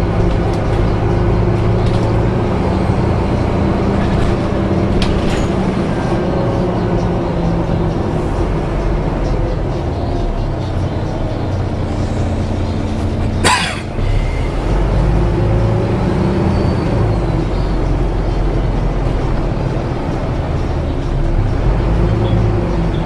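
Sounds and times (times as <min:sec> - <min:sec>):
bus diesel engine rumble: 0:00.0 - 0:23.0.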